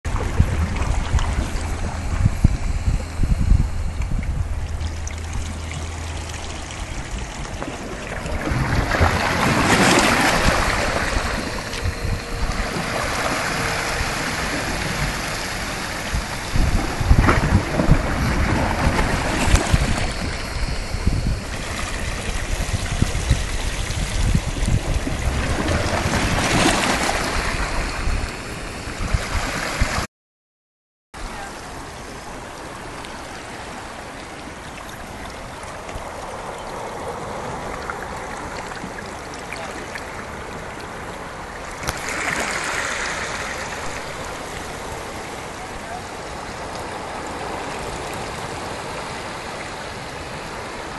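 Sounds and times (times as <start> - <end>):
steady water wash: 0.0 - 30.1, 31.2 - 50.9
sea water sloshing in rock hole: 0.1 - 30.1, 32.6 - 50.9.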